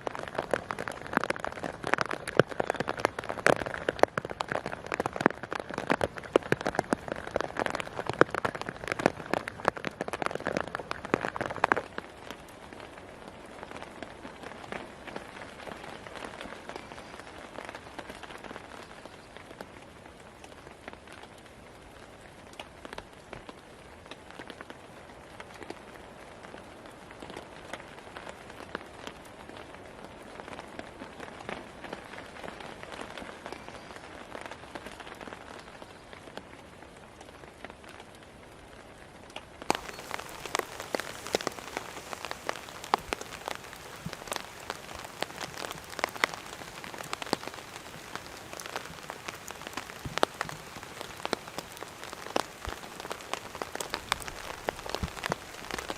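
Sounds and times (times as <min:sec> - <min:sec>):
light rain falling: 0:00.0 - 0:55.9
raindrops striking close by: 0:00.0 - 0:55.9.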